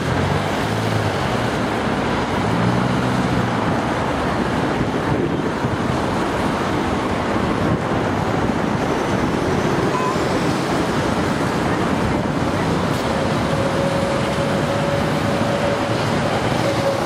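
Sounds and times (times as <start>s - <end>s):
city traffic: 0.0s - 17.0s
wind on microphone: 0.9s - 17.0s.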